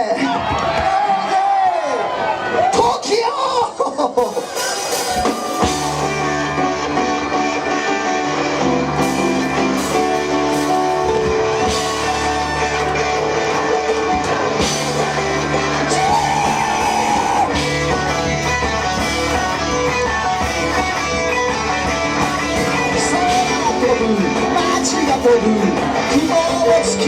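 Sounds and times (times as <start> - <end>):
live rock band instrumental: 4.0 - 27.0.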